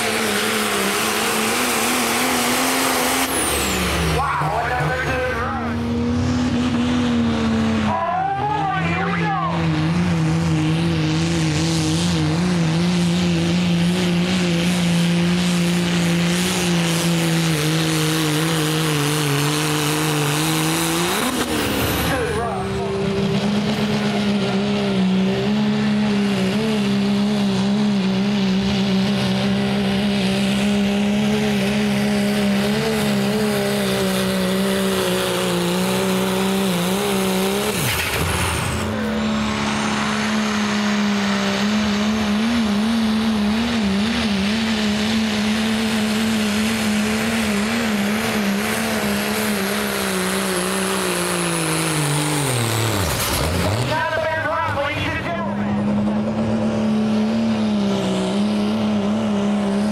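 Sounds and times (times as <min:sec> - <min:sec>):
pickup engines revving under load: 0:00.0 - 0:59.9.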